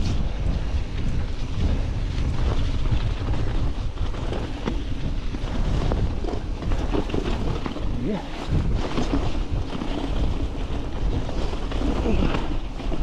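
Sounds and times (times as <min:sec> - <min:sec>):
bike knocks and rattles: 0:00.0 - 0:13.0
wind buffeting microphone: 0:00.0 - 0:13.0.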